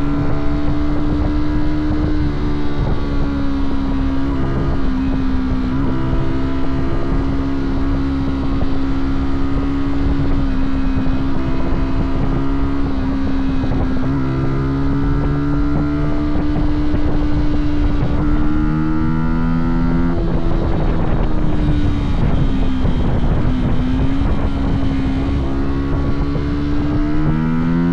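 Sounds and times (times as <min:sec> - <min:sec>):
motorcycle engine running: 0:00.0 - 0:27.9
wind rumbling on microphone: 0:00.0 - 0:27.9.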